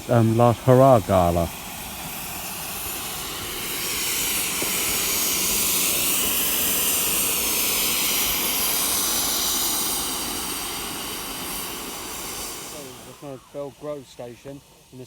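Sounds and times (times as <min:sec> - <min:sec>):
steam locomotive passing: 0:00.0 - 0:15.0.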